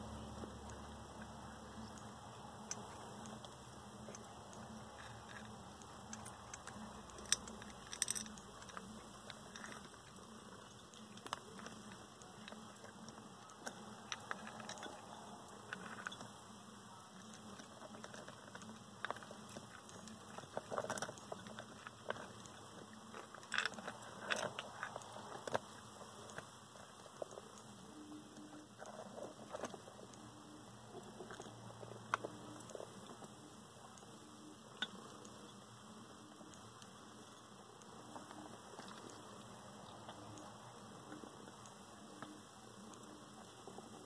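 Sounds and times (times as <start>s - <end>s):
faint low hum: 0.0s - 44.0s
crab shells clicking and tapping: 0.1s - 44.0s.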